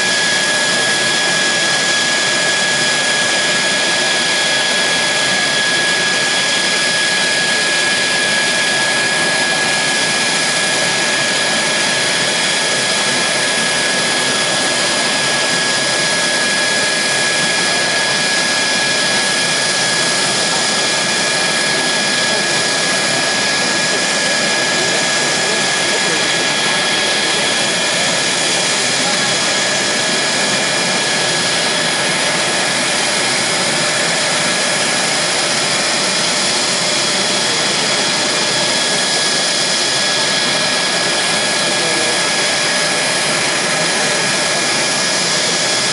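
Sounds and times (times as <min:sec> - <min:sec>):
jet engine running: 0:00.0 - 0:45.9.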